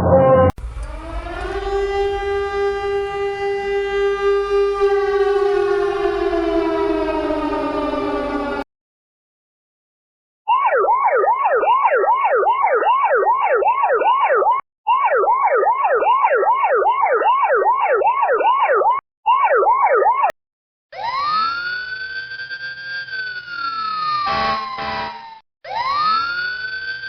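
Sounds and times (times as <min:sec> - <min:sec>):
siren rising to high note: 0:00.0 - 0:08.7, 0:10.5 - 0:20.4, 0:21.0 - 0:27.0
yelp siren: 0:00.0 - 0:08.7, 0:10.5 - 0:27.0.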